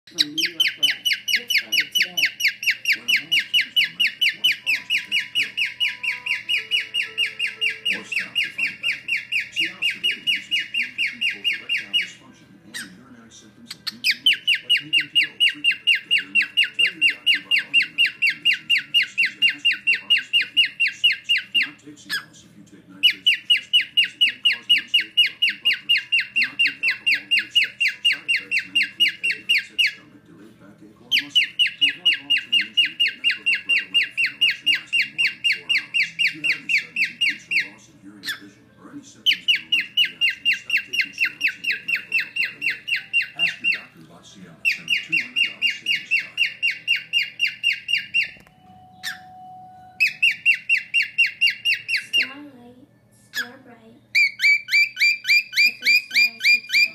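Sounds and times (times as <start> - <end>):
pet bird chirping: 0.0 - 30.4, 31.0 - 56.9.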